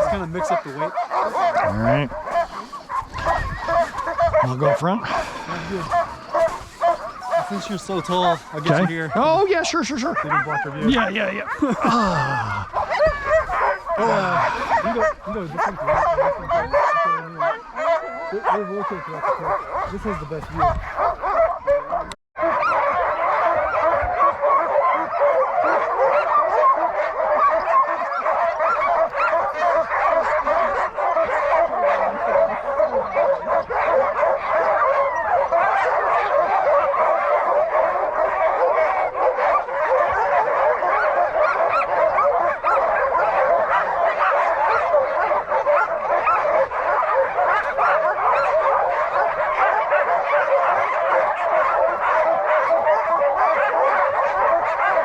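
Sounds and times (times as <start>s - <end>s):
dogs barking and yelping: 0.0s - 55.0s.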